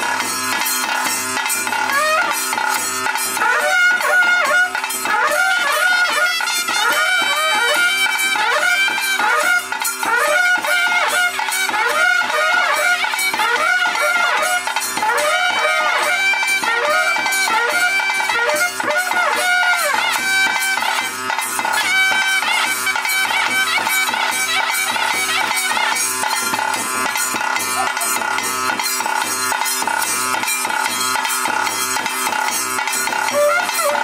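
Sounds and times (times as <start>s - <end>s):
drum beats: 0.0s - 34.0s
piping wind instrument melody: 1.8s - 29.0s, 32.9s - 34.0s.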